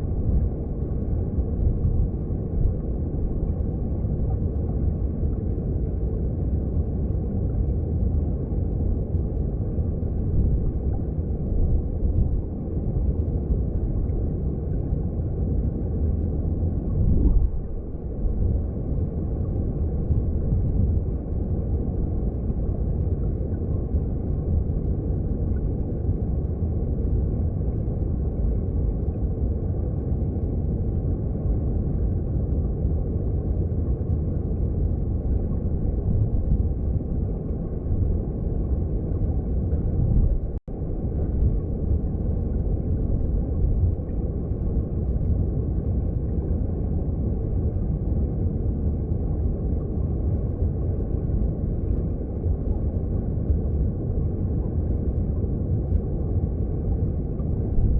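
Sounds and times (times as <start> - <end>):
underwater stream rumble: 0.0 - 57.9.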